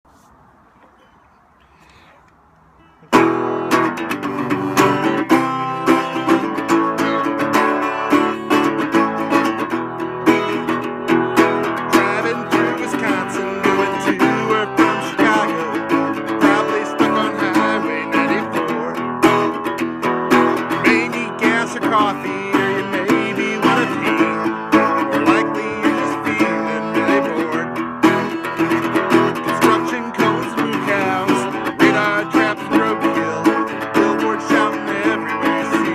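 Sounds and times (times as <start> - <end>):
acoustic guitar strummed and plucked: 3.0 - 35.9.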